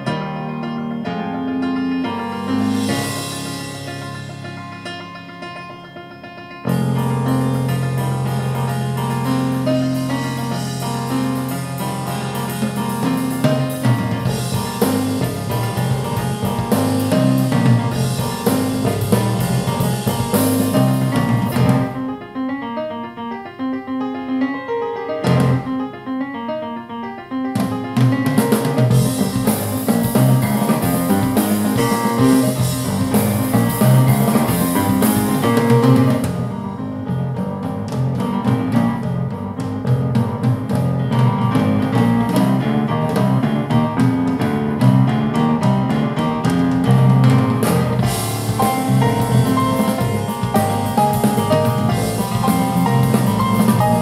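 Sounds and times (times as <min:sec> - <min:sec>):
jazz piano trio: 0:00.0 - 0:54.0
solo piano: 0:00.0 - 0:54.0.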